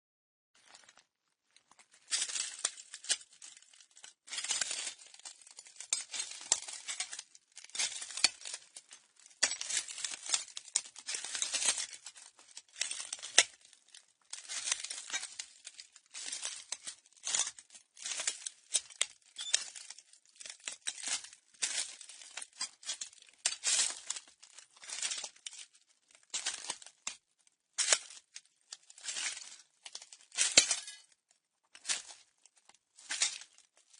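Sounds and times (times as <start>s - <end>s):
footsteps crunching broken glass: 0.6s - 32.4s, 33.0s - 33.9s.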